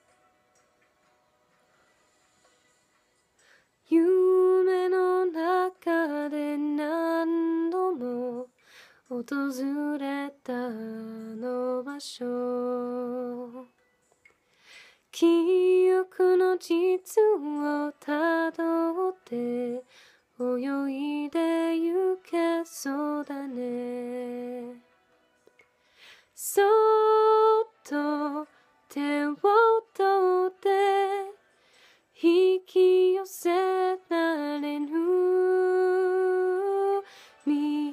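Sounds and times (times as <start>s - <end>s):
woman singing unaccompanied: 3.9s - 13.8s, 15.1s - 24.9s, 26.4s - 31.4s, 32.2s - 37.9s.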